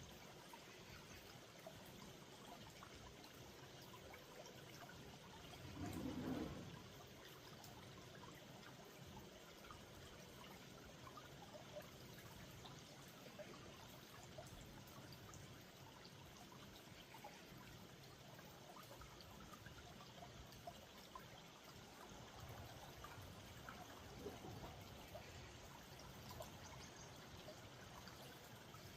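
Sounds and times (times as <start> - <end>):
stream trickling and babbling: 0.0 - 28.9.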